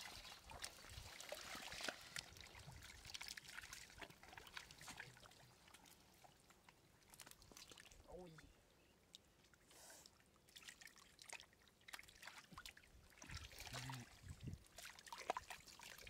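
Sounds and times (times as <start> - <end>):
shallow water splashing: 0.0 - 8.1, 9.1 - 16.0.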